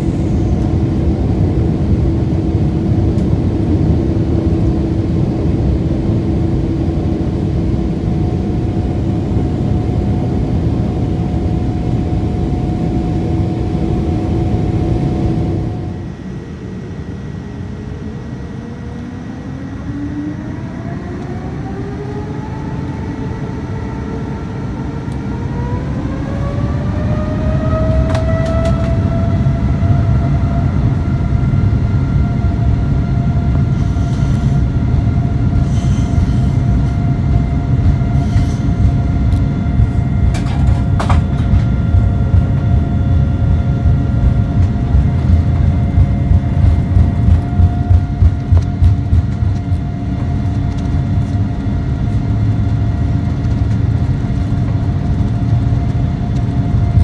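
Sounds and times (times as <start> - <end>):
airliner engines whining: 0.0 - 57.0
low rumble of takeoff roll: 0.0 - 57.0.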